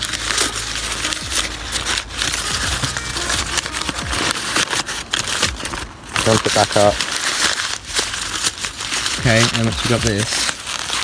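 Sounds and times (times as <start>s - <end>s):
paper crinkling: 0.0s - 11.0s.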